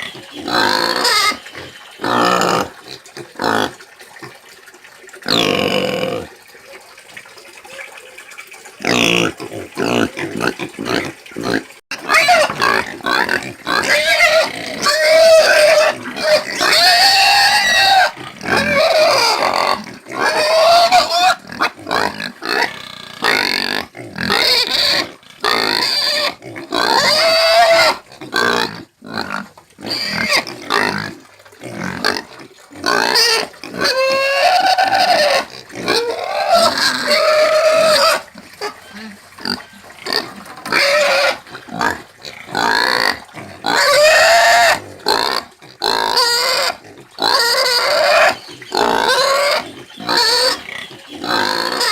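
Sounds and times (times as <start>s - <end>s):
pigs squealing: 0.0s - 3.8s, 5.2s - 6.3s, 8.8s - 51.9s.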